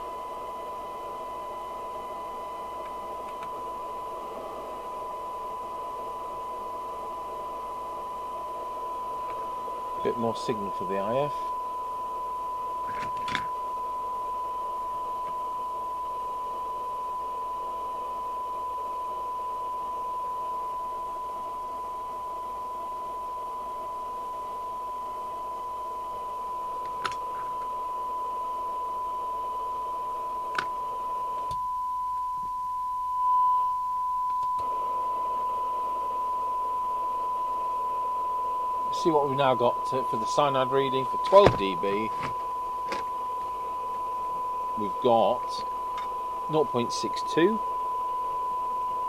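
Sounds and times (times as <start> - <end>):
receiver hiss: 0.0 - 49.0
steady test tone: 0.0 - 49.0.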